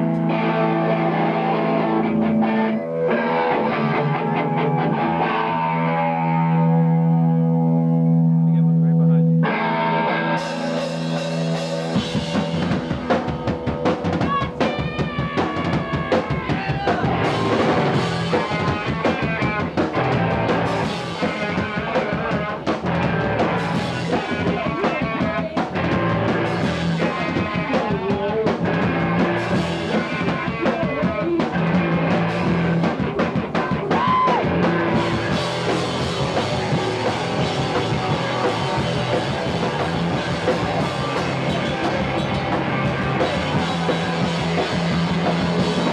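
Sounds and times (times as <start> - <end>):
rock music with drum kit: 0.0 - 45.9.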